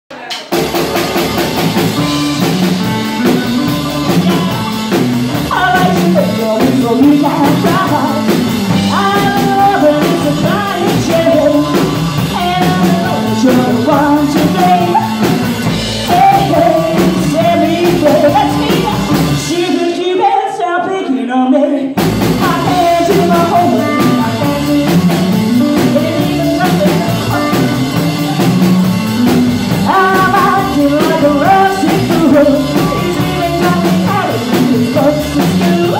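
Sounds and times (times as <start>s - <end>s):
drum kit: 0.1s - 20.3s, 22.0s - 35.9s
electric guitar: 0.2s - 21.0s, 21.8s - 35.9s
upright double bass: 0.5s - 19.4s, 22.0s - 35.9s
woman singing lead: 2.0s - 35.9s.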